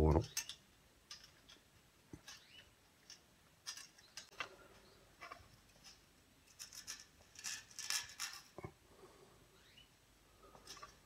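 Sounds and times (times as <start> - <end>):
small metal clicks and scrapes: 0.2 - 8.7, 10.5 - 11.0.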